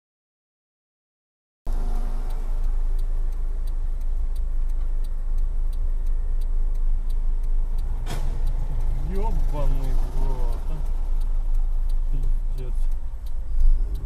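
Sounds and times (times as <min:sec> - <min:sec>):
car engine and road rumble: 0:01.7 - 0:14.0
faint regular ticking: 0:01.7 - 0:14.0.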